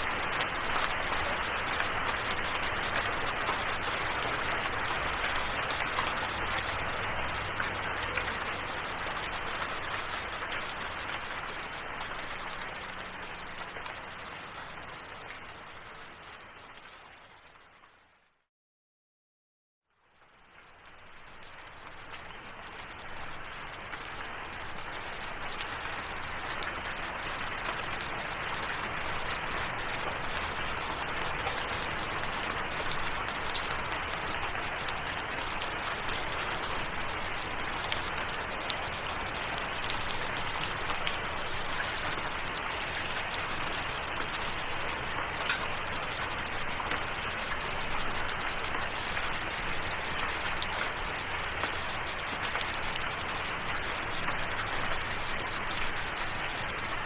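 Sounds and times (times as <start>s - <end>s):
raindrops pattering: 0.0s - 18.0s, 20.0s - 57.0s.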